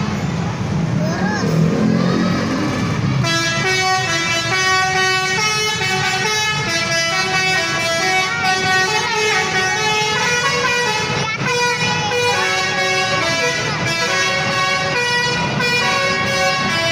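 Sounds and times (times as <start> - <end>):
musical bus horn playing tune: 3.2 - 16.9.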